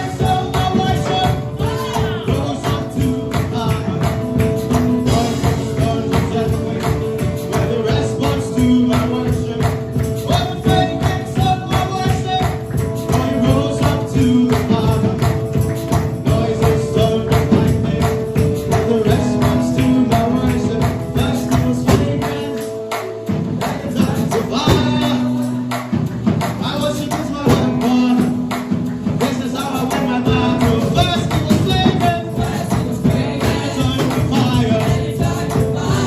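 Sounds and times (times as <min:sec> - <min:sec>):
people singing: 0:00.0 - 0:36.0
tambourine shaken and struck: 0:00.0 - 0:36.0
upbeat gospel band: 0:00.0 - 0:36.0.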